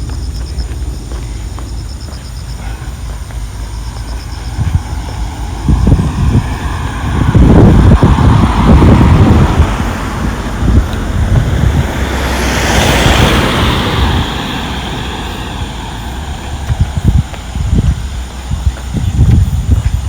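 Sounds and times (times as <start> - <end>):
road vehicle passing: 0.0 - 20.0
wind rumble on microphone: 0.0 - 20.0.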